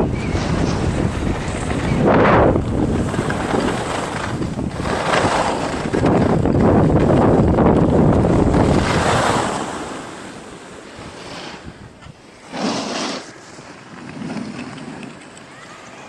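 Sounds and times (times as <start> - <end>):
wind rushing over microphone: 0.0 - 13.4.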